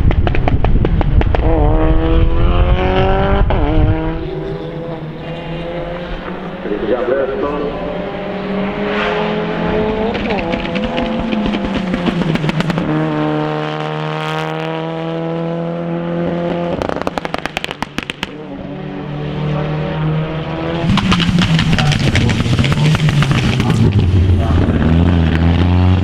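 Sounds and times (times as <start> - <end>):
exhaust crackles and pops: 0.0 - 15.0, 16.0 - 18.8, 20.4 - 26.0
race car engine running hard: 0.0 - 26.0.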